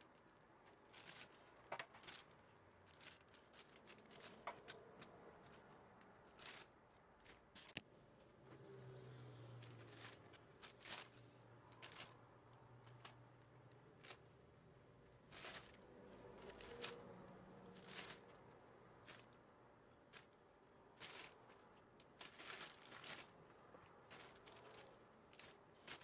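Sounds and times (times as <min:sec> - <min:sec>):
plastic bags rustling: 0:00.0 - 0:07.8, 0:09.5 - 0:26.0.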